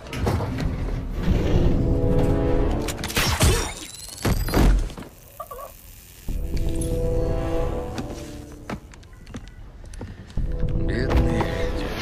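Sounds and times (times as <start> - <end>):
dramatic film score: 0.0 - 4.7, 6.3 - 12.0.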